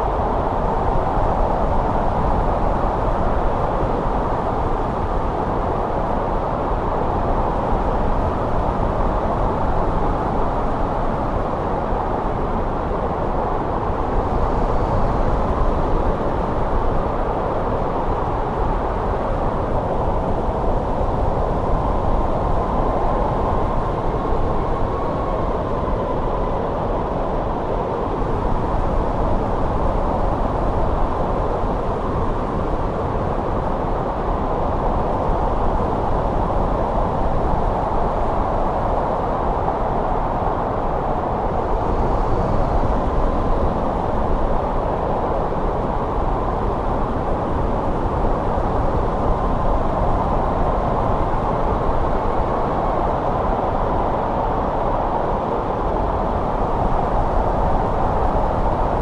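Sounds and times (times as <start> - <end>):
wind blowing with faint whistle: 0.0 - 59.0.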